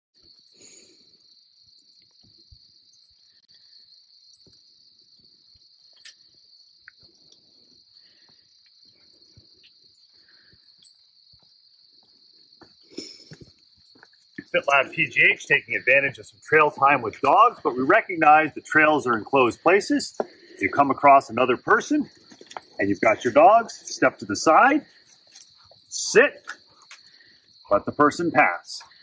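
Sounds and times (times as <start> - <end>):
high-pitched insect chorus: 0.2 - 29.0.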